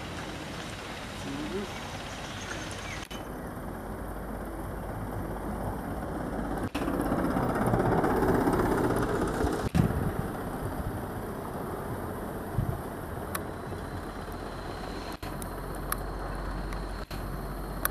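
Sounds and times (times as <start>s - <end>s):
diesel truck driving past: 0.0s - 17.9s.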